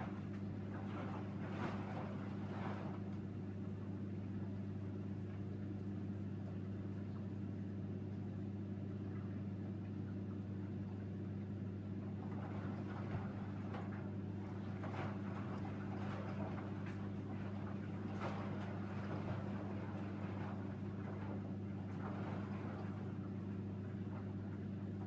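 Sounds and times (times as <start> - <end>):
washing machine motor hum: 0.0 - 25.0
water and clothes swishing in drum: 0.0 - 25.0.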